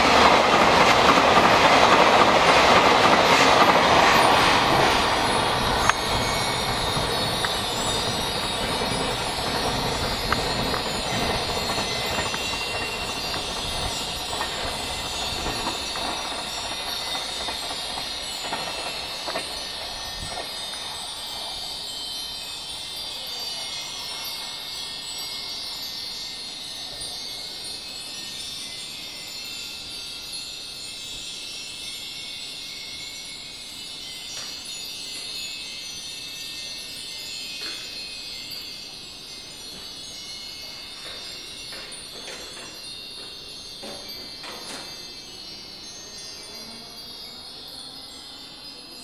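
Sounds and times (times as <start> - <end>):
metal wind chimes ringing: 0.0 - 49.0.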